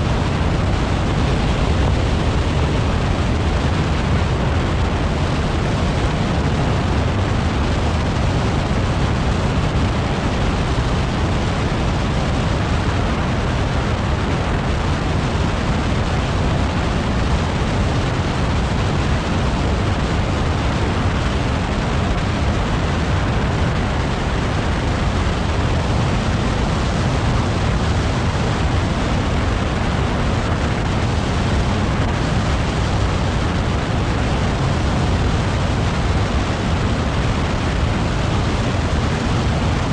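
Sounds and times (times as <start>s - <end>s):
heavy low rumble: 0.0s - 39.9s
tyre and wind noise: 0.0s - 39.9s.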